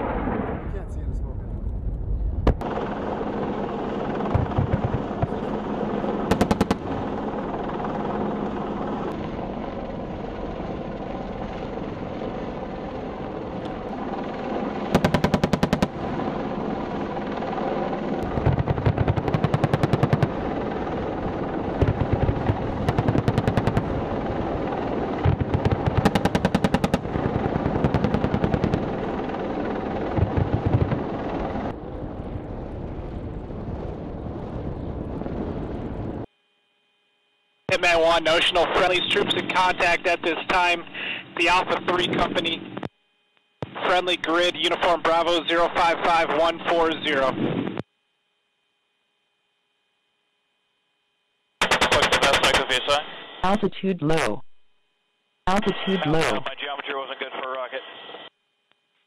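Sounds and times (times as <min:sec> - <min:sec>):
helicopter noise: 0:00.0 - 0:36.3, 0:37.7 - 0:42.8, 0:43.6 - 0:47.8, 0:51.6 - 0:54.3, 0:55.5 - 0:56.5.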